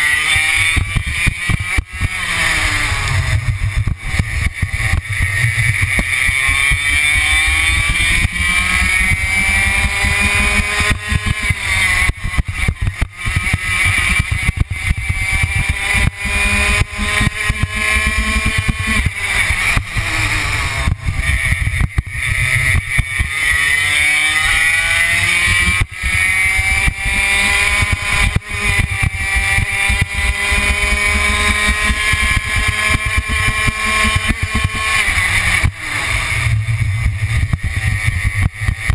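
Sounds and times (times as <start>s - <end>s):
racing kart engine revving: 0.0s - 38.9s.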